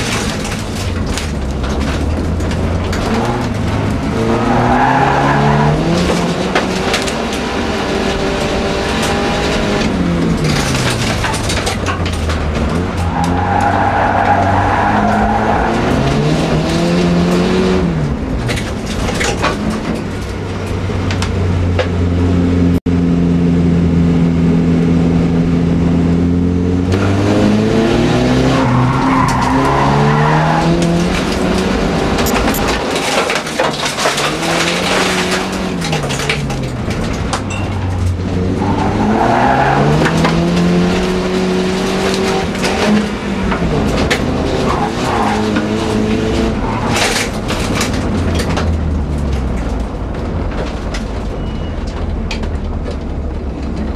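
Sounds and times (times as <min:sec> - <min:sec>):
gravel clattering against car: 0:00.0 - 0:07.5, 0:08.4 - 0:16.3, 0:18.0 - 0:22.0, 0:28.6 - 0:53.9
racing car engine revving: 0:00.0 - 0:20.3, 0:21.1 - 0:50.9
tyres skidding on gravel: 0:00.0 - 0:21.2, 0:26.9 - 0:53.9.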